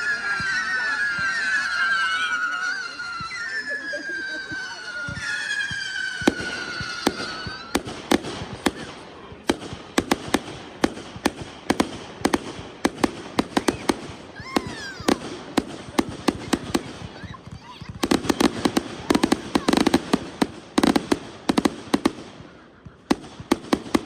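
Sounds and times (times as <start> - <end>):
firework cracking bangs: 0.0 - 24.0
firework whistling: 0.0 - 24.0.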